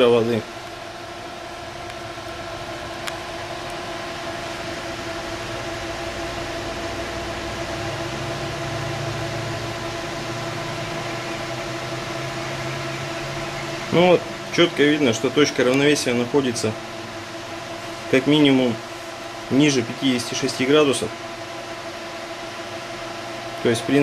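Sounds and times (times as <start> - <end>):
fan blade hum: 0.0 - 24.0
fans rushing air: 0.0 - 24.0.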